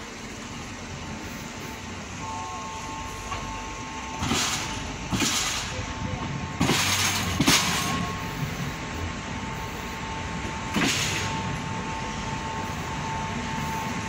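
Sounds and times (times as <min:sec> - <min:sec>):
thin steady whine: 0:00.0 - 0:14.0
train rumbling on track: 0:00.0 - 0:14.0.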